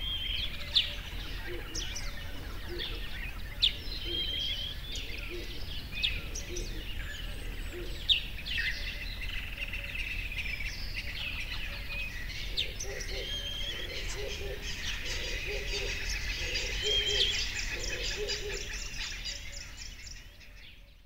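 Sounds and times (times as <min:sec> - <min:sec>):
low background noise: 0:00.0 - 0:21.0
small songbirds chirping: 0:00.0 - 0:21.0.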